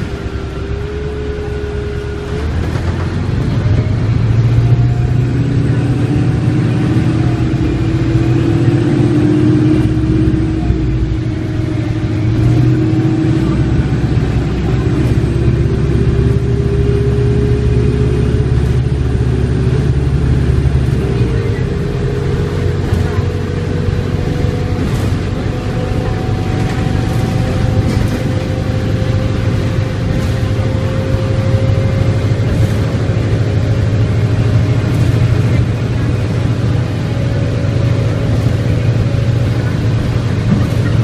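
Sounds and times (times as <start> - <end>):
bus engine rumble with whine: 0.0 - 41.0.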